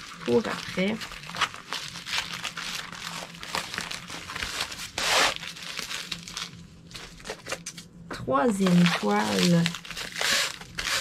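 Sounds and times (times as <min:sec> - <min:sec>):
plastic packaging crinkling: 0:00.0 - 0:07.9, 0:08.5 - 0:11.0.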